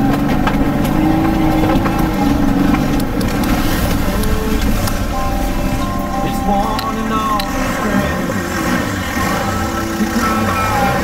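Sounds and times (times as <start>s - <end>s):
engine and road noise: 0.0s - 11.0s.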